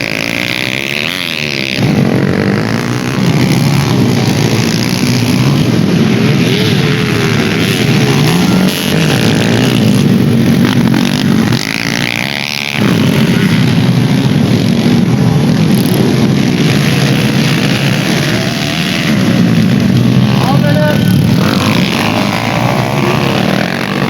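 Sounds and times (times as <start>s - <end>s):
dirt bike engines running: 0.0s - 24.0s
dirt bike revving: 0.0s - 24.0s.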